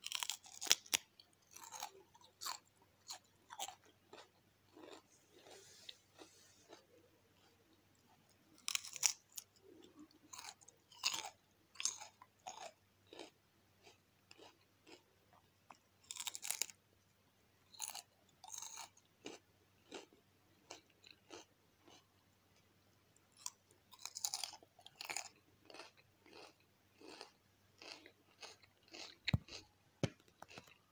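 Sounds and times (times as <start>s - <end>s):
person chewing crunchy food: 0.0s - 15.0s, 15.7s - 16.8s, 17.7s - 22.1s, 23.3s - 30.9s.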